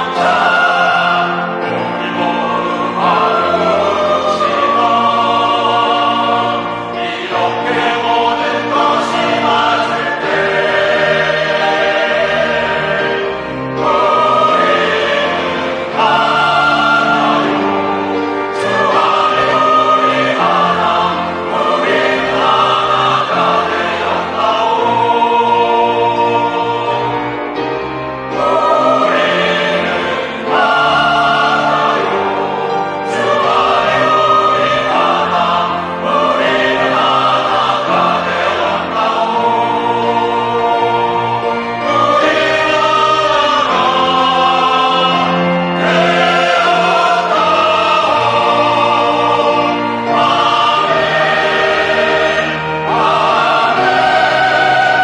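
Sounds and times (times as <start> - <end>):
choir singing: 0.0 - 55.0
organ: 0.0 - 55.0.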